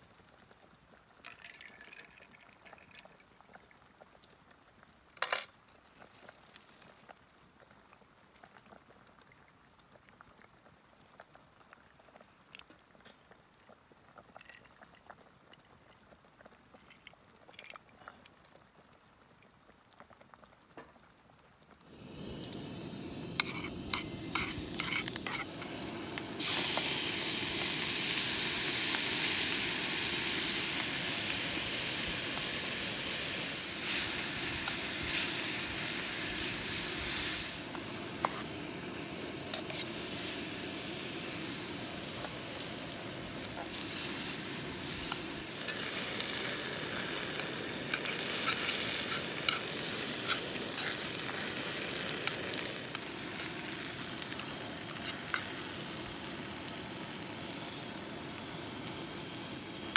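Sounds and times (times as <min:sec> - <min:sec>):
steady sizzling hiss: 0:00.0 - 0:59.9.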